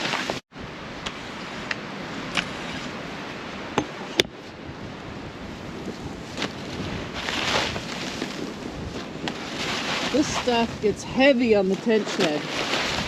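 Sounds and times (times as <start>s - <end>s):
strong wind buffeting microphone: 0.6s - 13.0s.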